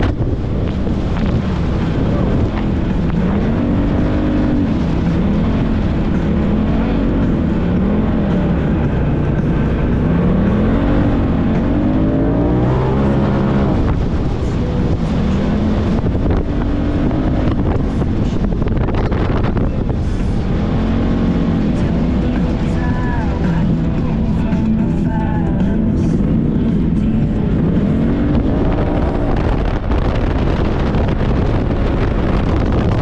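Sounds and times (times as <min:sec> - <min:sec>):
utility vehicle engine revving: 0:00.0 - 0:33.0.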